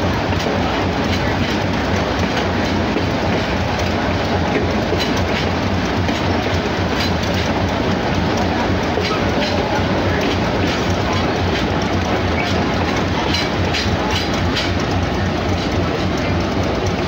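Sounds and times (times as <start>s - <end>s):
diesel engine rumbling: 0.0s - 17.0s
train wheels rolling on rails: 0.0s - 17.0s.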